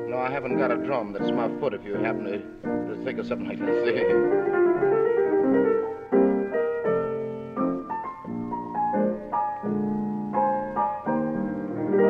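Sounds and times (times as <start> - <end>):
solo jazz piano: 0.0 - 12.0.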